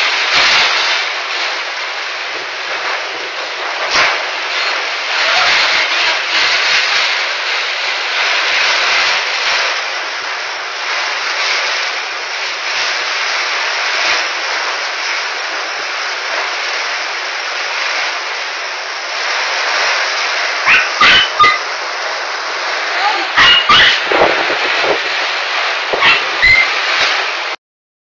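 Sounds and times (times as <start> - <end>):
heavy rain pouring: 0.0 - 27.6.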